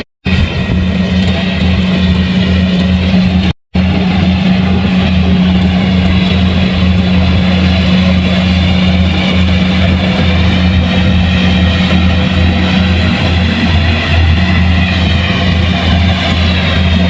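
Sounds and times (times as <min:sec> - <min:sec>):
combine harvester diesel engine: 0:00.0 - 0:17.0.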